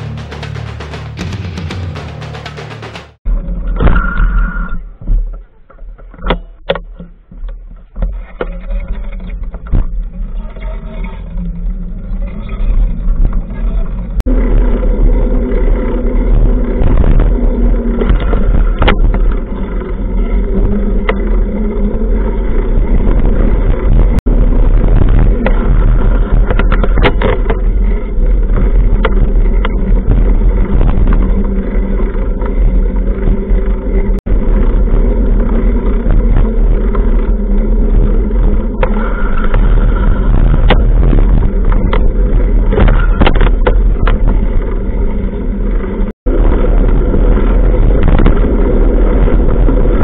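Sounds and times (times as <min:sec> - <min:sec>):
wind rushing over microphone: 0:09.4 - 0:50.0.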